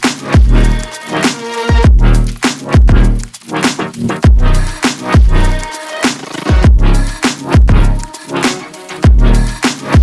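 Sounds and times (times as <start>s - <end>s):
electronic music with heavy beat: 0.0s - 10.0s.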